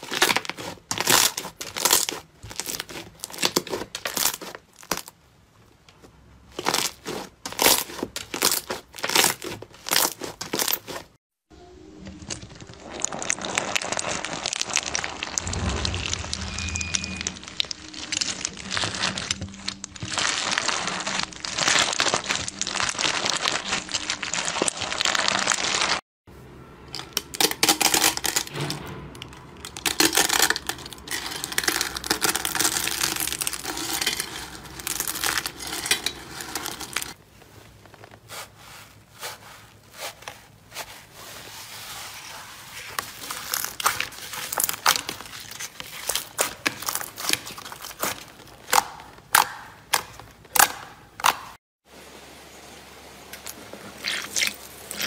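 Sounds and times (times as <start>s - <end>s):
soap flakes crinkling: 0.0s - 5.2s, 6.5s - 11.2s, 12.3s - 15.4s, 17.6s - 26.0s, 29.8s - 51.6s, 53.3s - 55.0s.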